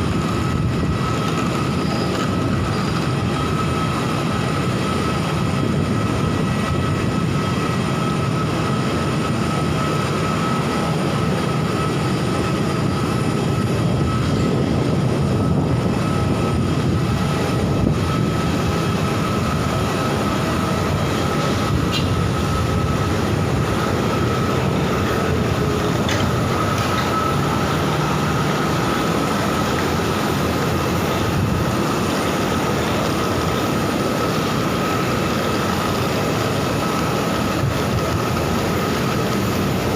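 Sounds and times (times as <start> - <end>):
mechanical drone with high whine: 0.0 - 39.9.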